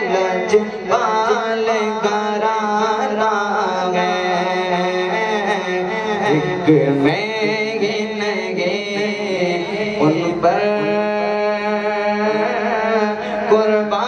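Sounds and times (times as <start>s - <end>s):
man singing into microphone: 0.0s - 14.0s.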